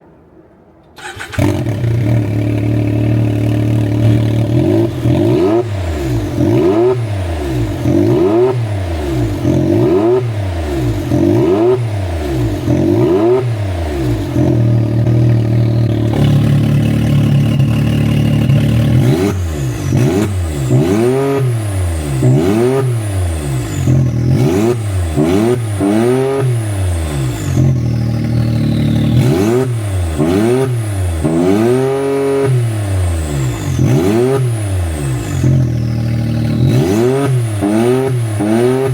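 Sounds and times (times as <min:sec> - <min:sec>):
utv engine revving: 0:01.0 - 0:38.9.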